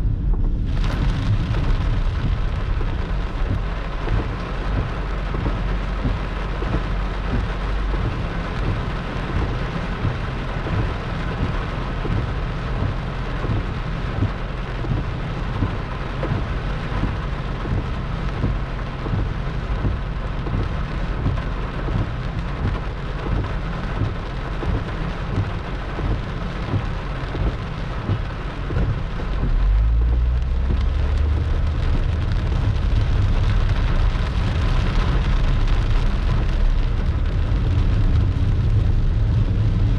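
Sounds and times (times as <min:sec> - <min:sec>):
deep thunder rumble: 0:00.0 - 0:39.9
heavy rain pattering: 0:00.0 - 0:39.9.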